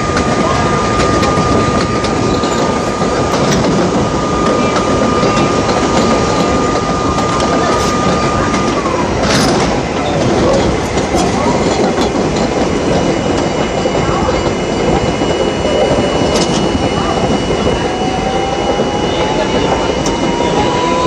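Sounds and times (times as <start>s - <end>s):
clickety-clack of rail joints: 0.0s - 21.0s
high-pitched whine: 0.0s - 21.0s
subway car rumbling: 0.0s - 21.0s.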